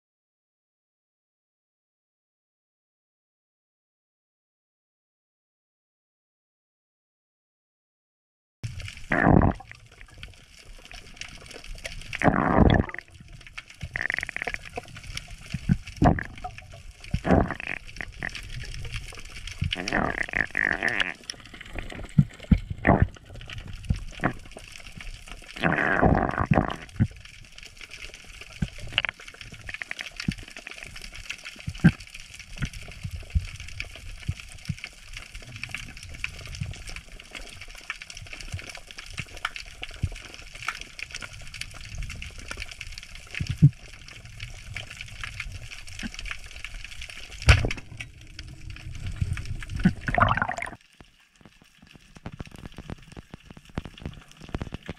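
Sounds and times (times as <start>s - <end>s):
water gurgling and sloshing: 8.7s - 54.9s.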